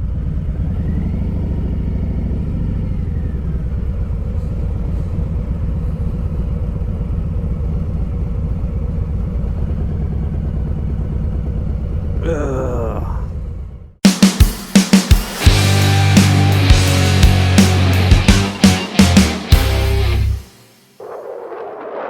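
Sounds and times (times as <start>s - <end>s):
motorcycle engine rumbling: 0.0s - 13.7s, 15.4s - 21.1s.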